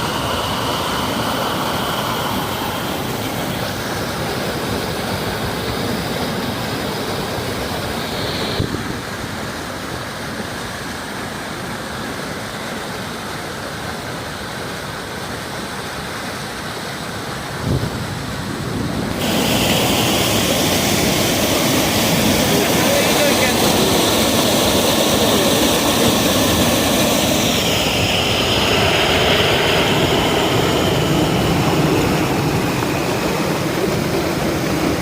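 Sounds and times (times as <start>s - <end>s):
rushing floodwater: 0.0s - 35.0s.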